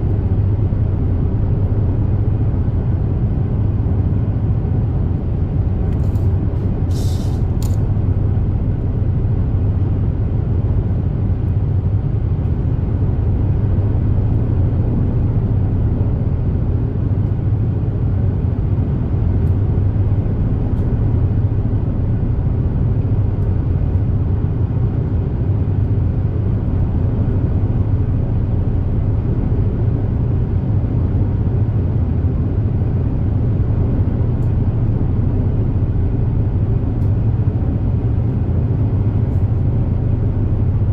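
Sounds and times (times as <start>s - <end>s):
ferry engine rumble: 0.0s - 40.9s.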